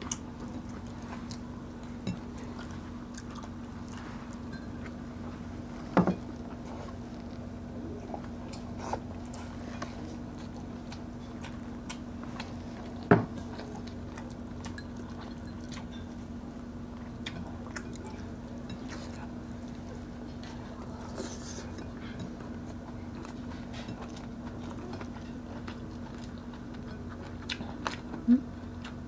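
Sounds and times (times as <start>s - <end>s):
chewing: 0.0s - 16.3s, 16.9s - 29.0s
steady low hum: 0.0s - 29.0s.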